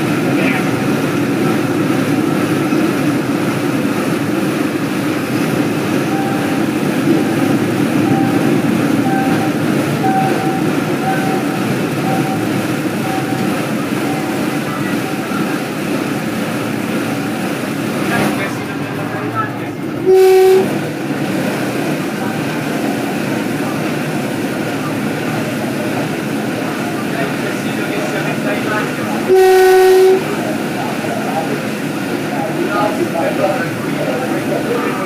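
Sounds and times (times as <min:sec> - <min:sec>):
train running on track: 0:00.0 - 0:35.0.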